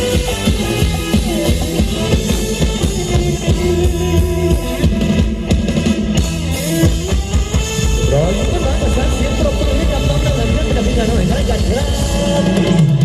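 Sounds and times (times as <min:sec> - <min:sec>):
drum kit: 0:00.0 - 0:13.0
guitar: 0:00.0 - 0:13.0
heavy bass: 0:00.0 - 0:13.0
loud band music over loudspeakers: 0:00.0 - 0:13.0.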